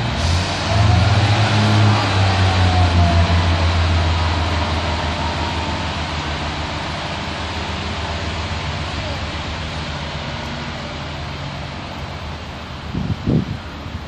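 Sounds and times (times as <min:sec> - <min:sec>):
diesel train engines accelerating: 0:00.0 - 0:14.0.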